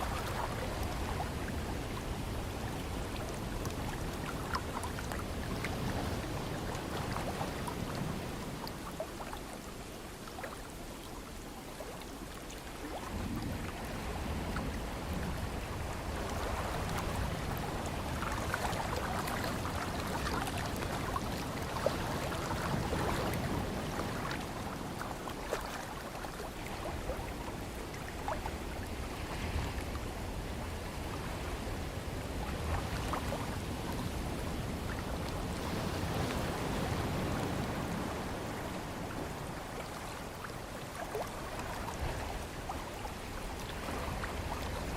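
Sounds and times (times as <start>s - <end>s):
ocean waves washing: 0.0s - 44.9s.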